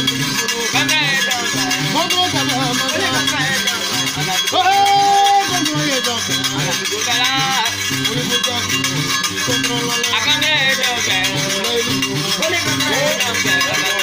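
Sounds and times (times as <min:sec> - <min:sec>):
person singing: 0:00.0 - 0:14.0
plucked gourd harp with buzzing plate: 0:00.0 - 0:14.0.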